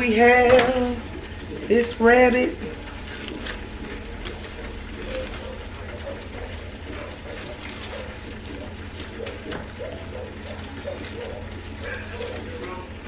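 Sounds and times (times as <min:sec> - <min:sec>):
vegetables bubbling in liquid: 0:00.0 - 0:13.0.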